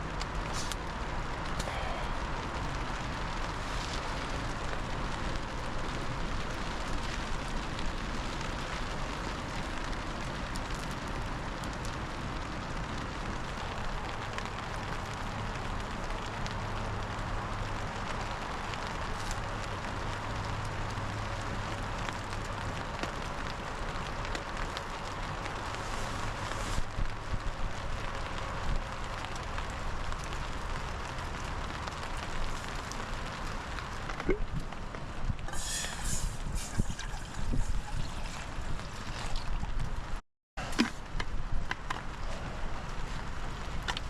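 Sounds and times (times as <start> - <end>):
rain pattering on ground: 0.0 - 44.0
small clicks and crackles: 0.0 - 44.0.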